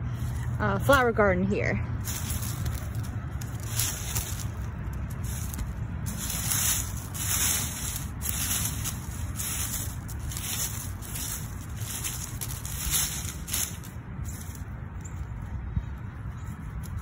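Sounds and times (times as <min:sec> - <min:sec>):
dry leaves rustling: 0:00.0 - 0:17.0.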